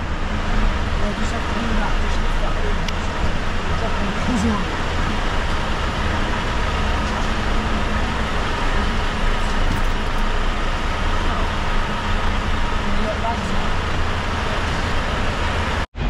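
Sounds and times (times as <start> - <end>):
lorry diesel engines rumbling: 0.0 - 16.0.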